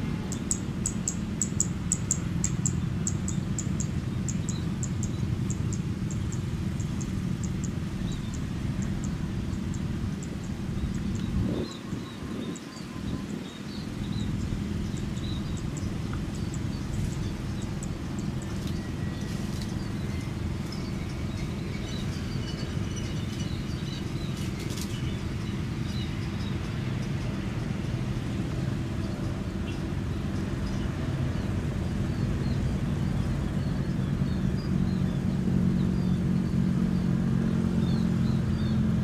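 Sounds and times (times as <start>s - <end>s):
low outdoor rumble: 0.0s - 39.0s
small birds chirping: 0.0s - 39.0s.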